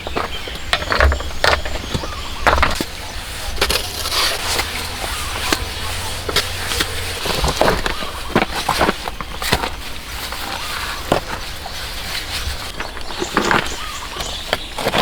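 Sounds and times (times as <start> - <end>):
building materials knocking and scraping: 0.0 - 15.0.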